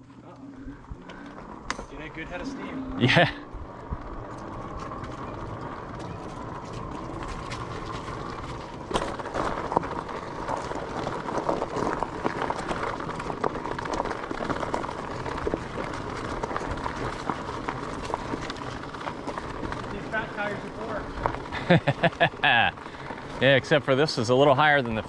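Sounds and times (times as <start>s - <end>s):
bike tyres rolling: 0.0s - 25.0s
tyres crunching gravel and leaves: 0.0s - 25.0s.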